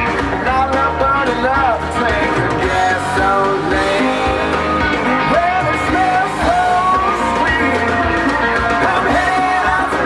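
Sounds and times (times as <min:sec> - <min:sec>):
country rock song with singer: 0:00.0 - 0:10.0.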